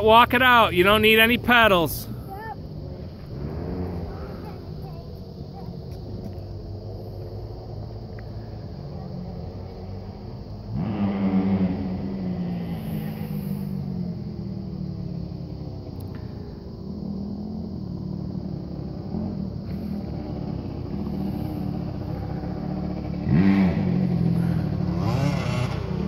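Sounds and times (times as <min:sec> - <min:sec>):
car engine idling: 0:00.0 - 0:10.9, 0:11.8 - 0:26.0.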